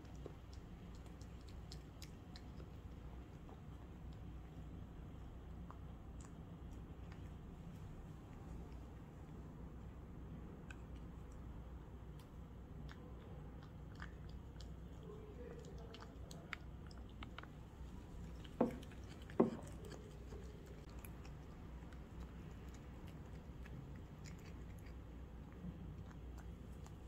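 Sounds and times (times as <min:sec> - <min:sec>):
cat chewing wet food: 0:00.0 - 0:27.0.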